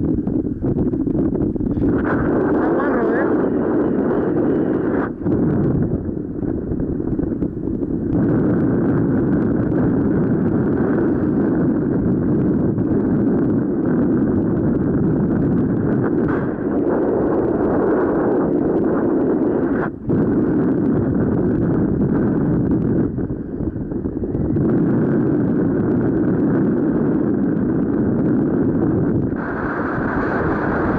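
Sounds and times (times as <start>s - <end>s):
wind rushing over microphone: 0.0s - 30.9s.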